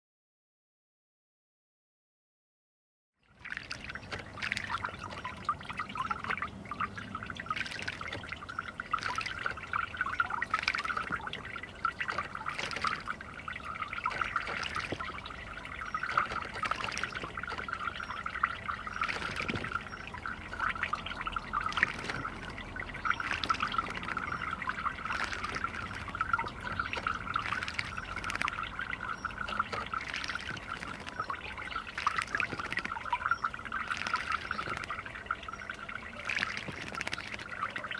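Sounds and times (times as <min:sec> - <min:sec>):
bird splashing in water: 0:03.3 - 0:37.9
water trickling: 0:03.3 - 0:37.9.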